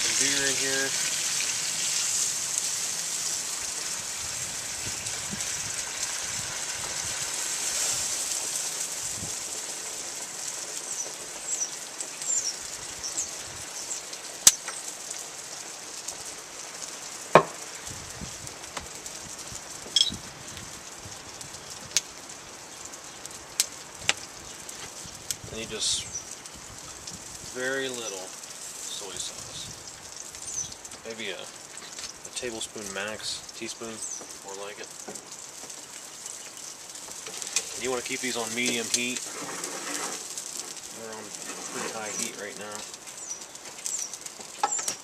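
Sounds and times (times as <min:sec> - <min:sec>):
beer sizzling in hot oil: 0:00.0 - 0:45.0.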